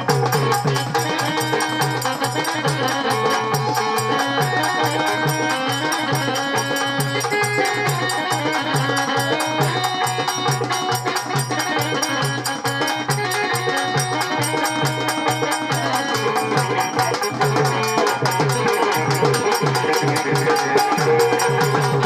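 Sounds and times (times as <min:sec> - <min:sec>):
fast percussion beat: 0:00.0 - 0:22.0
reedy wind melody: 0:00.0 - 0:22.0.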